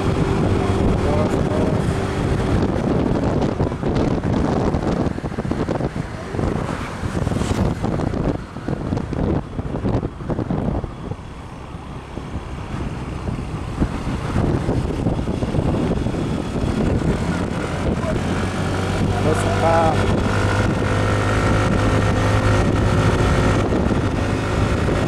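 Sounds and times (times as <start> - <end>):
engine and road noise rumbling: 0.0 - 25.0
wind buffeting microphone: 0.0 - 25.0.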